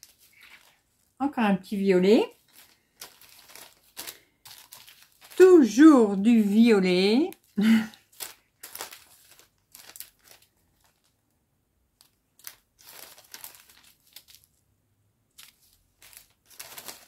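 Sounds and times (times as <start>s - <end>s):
plastic bags crinkling: 0.0s - 11.3s, 11.9s - 14.6s, 15.3s - 17.0s.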